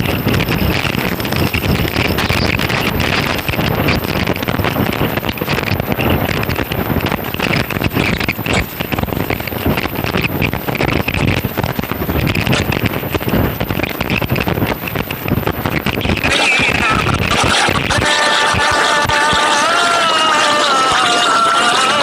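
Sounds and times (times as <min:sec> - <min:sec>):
cutting torch hissing: 0:00.0 - 0:22.0
torch crackles: 0:00.0 - 0:22.0.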